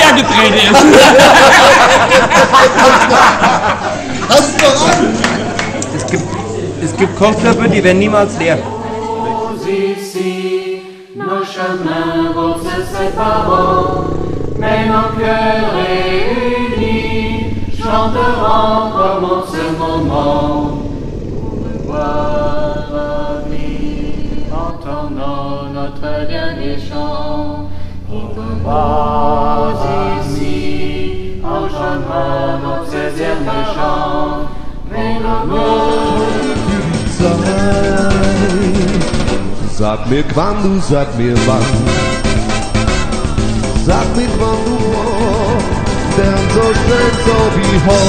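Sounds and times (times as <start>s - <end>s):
song with group singing: 8.4s - 48.0s.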